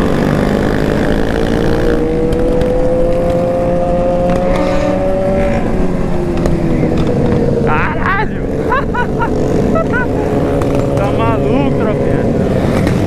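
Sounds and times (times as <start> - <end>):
motorcycle engines at speed: 0.0 - 13.0.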